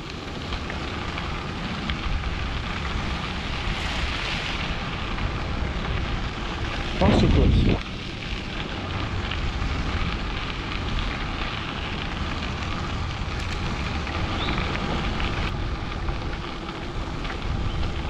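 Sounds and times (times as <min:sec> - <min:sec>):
bicycle tyres crunching on gravel: 0:00.0 - 0:18.0
wind buffeting microphone: 0:00.0 - 0:18.0.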